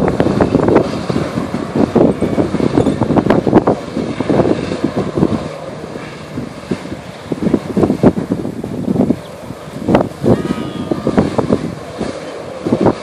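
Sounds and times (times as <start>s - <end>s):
jet ski engine rushing: 0.0s - 13.0s.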